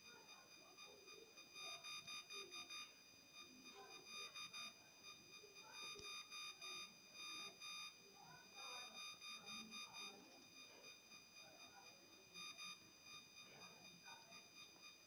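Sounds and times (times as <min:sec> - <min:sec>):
faint electronic beeping: 0:00.0 - 0:15.0.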